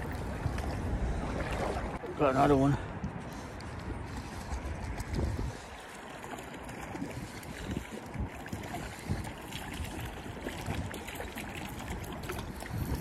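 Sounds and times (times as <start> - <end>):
flowing water: 0.0 - 13.0
wind rumbling on microphone: 0.0 - 13.0.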